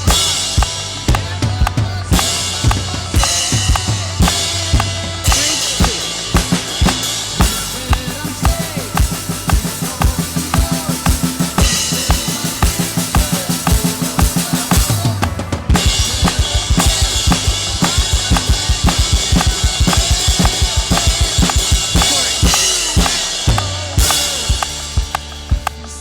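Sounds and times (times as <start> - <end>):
cymbals ringing: 0.0 - 26.0
worship song backing track: 0.0 - 26.0.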